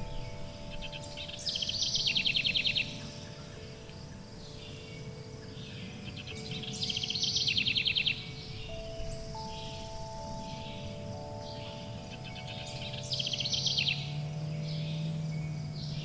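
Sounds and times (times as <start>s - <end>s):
low steady hum: 0.0s - 16.0s
ringing chime tones: 0.0s - 16.0s
songbird trilling: 0.0s - 16.0s.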